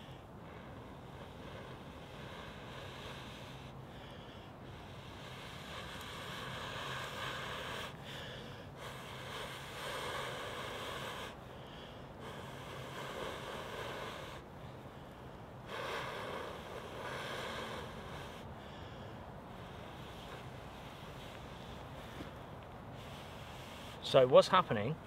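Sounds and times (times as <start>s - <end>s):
long slow breaths blown: 0.0s - 24.1s.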